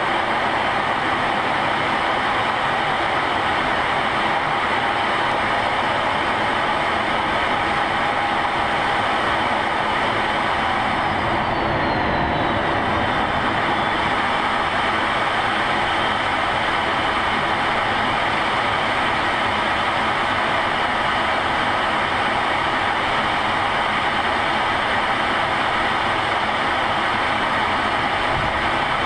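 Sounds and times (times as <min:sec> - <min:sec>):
jet engine and rushing airflow: 0:00.0 - 0:29.0.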